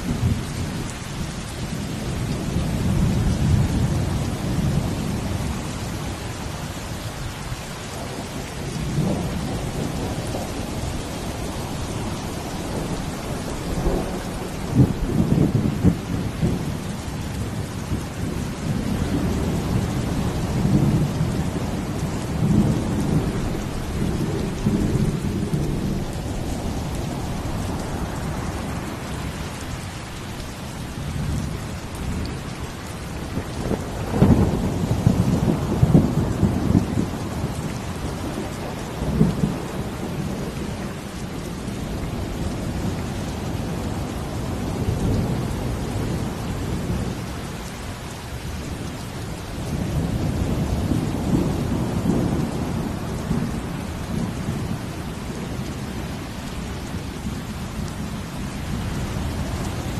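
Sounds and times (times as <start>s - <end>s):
heavy rain: 0.0s - 59.9s
deep rolling thunder rumbles: 7.9s - 47.8s, 48.6s - 59.9s.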